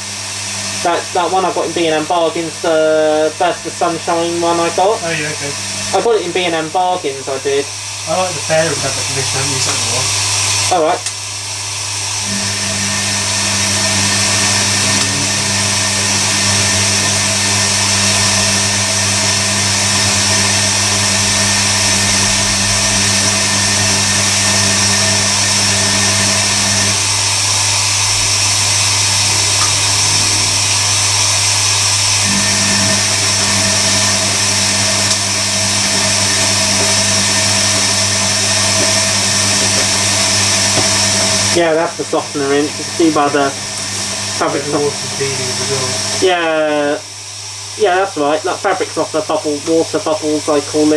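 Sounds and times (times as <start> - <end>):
washing machine humming: 0.0 - 50.9
water hissing in: 0.0 - 50.9.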